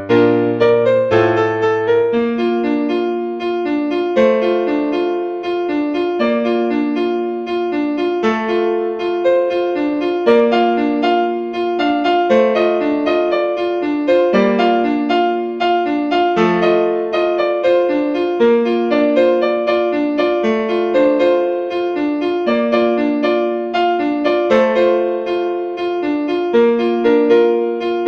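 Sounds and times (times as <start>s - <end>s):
keyboard background music: 0.0s - 28.0s.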